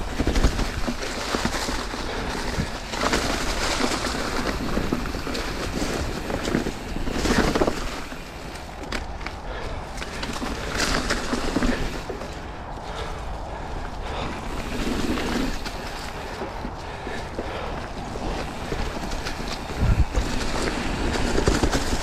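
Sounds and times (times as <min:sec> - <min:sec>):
bike tyres rolling over leaves: 0:00.0 - 0:22.0
wind buffeting microphone: 0:00.0 - 0:22.0.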